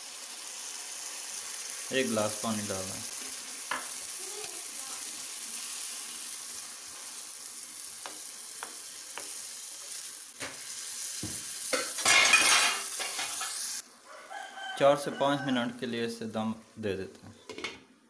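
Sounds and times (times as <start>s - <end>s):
lentils sizzling in a frying pan: 0.0s - 15.6s.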